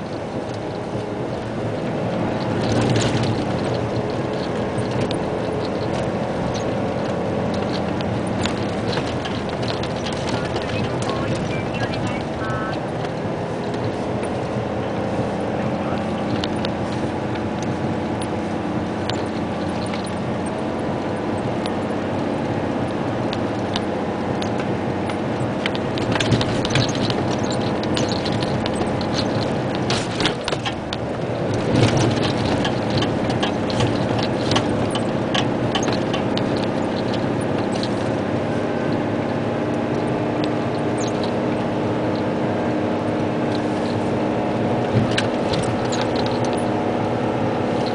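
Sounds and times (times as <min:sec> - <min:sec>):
cab rattles and knocks: 0:00.0 - 0:47.9
diesel truck engine running: 0:00.0 - 0:47.9.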